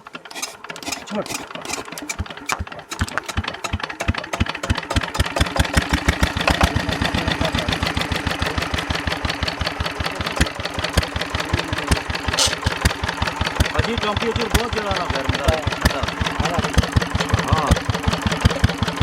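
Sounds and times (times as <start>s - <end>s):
wood-cutting machine engine running: 0.0s - 19.0s.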